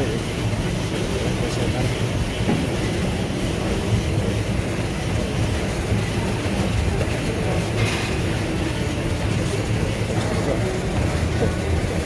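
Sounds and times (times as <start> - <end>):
treadmill motor and belt rumble: 0.0 - 12.0.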